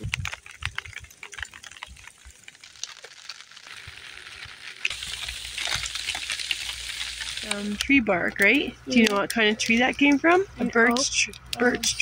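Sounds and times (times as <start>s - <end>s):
hail hitting plastic tarp: 0.0s - 12.0s.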